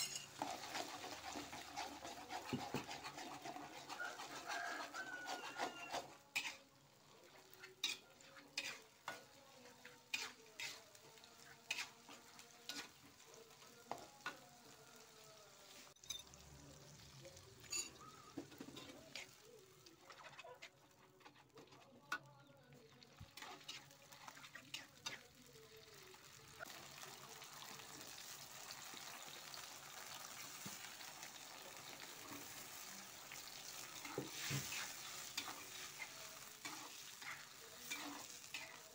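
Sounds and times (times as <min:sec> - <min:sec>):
paste sizzling in oil: 0:00.0 - 0:20.1, 0:23.3 - 0:38.9.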